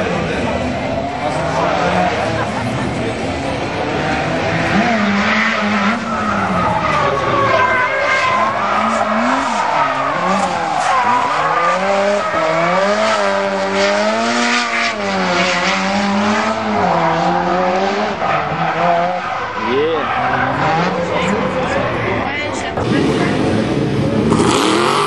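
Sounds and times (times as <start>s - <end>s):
car engine revving: 0.0s - 25.0s
tyres squealing and skidding: 0.8s - 23.4s.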